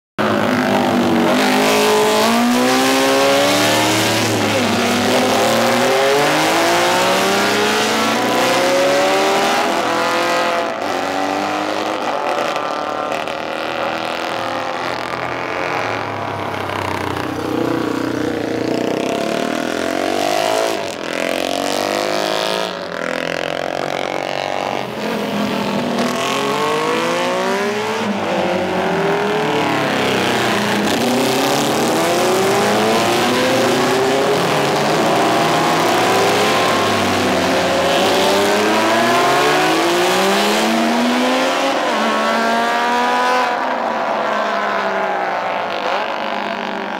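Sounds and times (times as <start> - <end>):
racing motorcycles revving past: 0.2 - 46.9.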